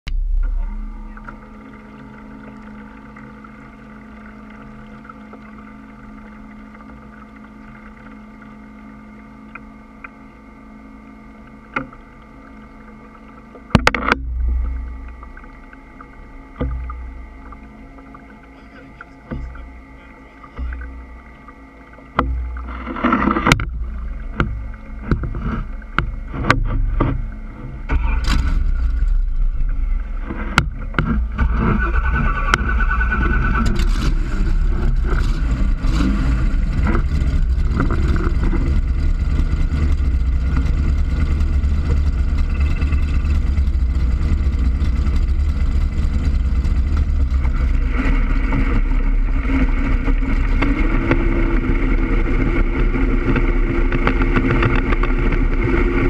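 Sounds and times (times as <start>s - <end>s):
boat engine running: 0.0s - 56.0s
paddle wheel churning water: 0.1s - 56.0s.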